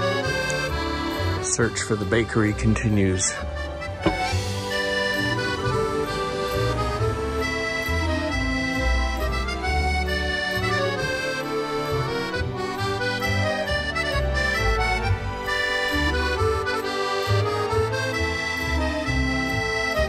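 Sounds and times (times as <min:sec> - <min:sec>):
accordion music: 0:00.0 - 0:20.0.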